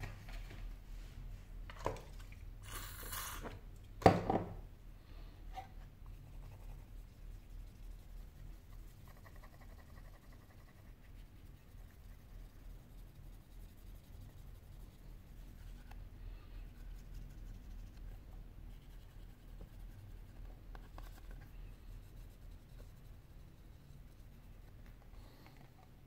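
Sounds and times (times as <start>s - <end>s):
steady low hum: 3.6s - 26.0s.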